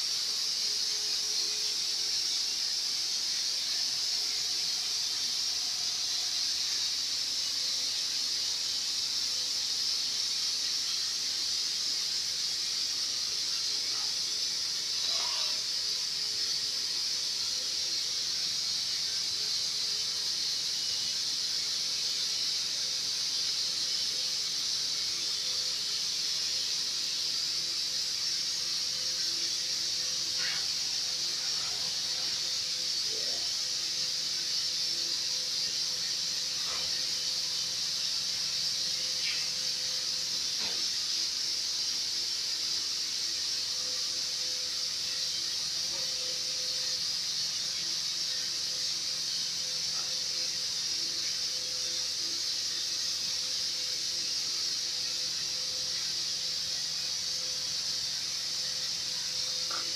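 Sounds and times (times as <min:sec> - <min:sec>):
high-pitched hiss: 0:00.0 - 0:59.9.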